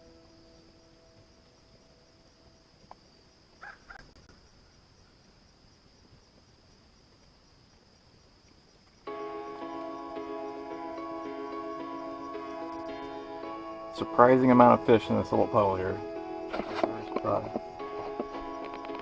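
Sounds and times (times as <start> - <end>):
faint high insect hum: 0.0 - 19.0.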